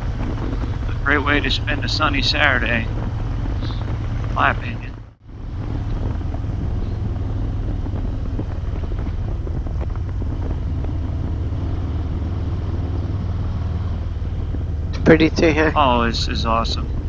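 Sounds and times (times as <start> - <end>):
motorcycle engine cruising: 0.0 - 17.0
wind rush: 0.0 - 17.0.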